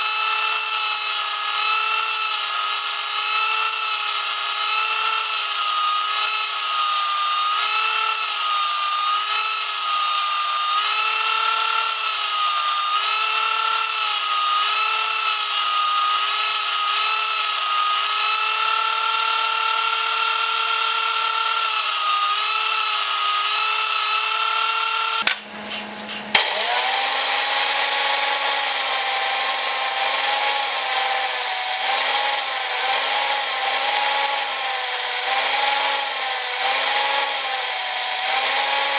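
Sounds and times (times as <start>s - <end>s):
angle grinder whining: 0.0s - 38.9s.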